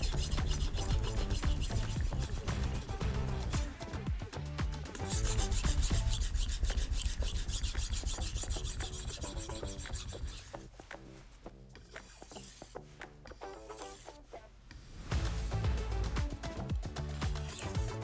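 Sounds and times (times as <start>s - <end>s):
knife scraping on sharpener: 0.0s - 4.1s, 4.9s - 11.1s, 11.8s - 15.1s, 17.2s - 18.0s.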